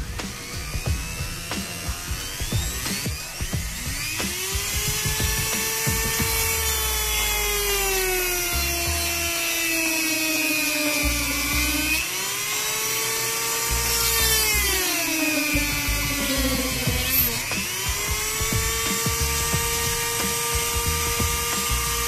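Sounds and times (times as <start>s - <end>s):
rotary tool cutting wood: 0.0s - 22.0s.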